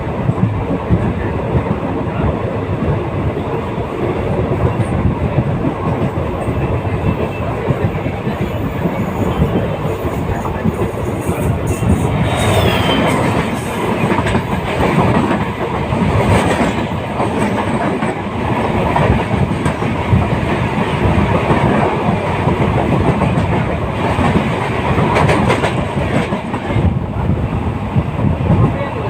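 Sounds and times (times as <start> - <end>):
train wheels rumbling and clattering: 0.0 - 29.0.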